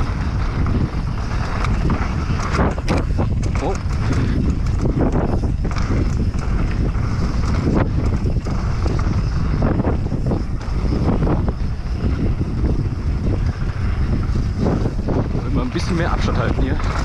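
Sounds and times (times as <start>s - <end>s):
bike knocks and rattles: 0.0s - 17.0s
mountain bike rumbling on rough trail: 0.0s - 17.0s
wind buffeting the microphone: 0.0s - 17.0s.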